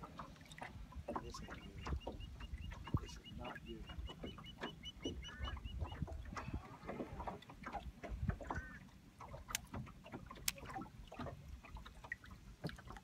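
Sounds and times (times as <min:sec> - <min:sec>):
waves lapping against boat hull: 0:00.0 - 0:13.0.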